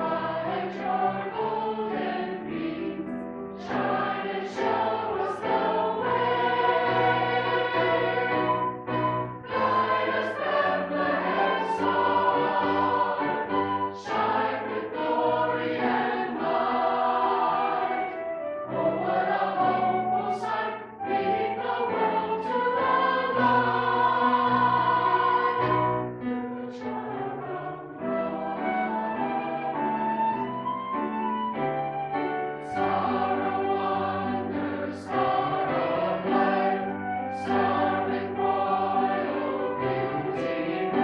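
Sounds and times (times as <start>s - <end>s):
church choir singing: 0.0s - 31.2s, 32.1s - 41.0s.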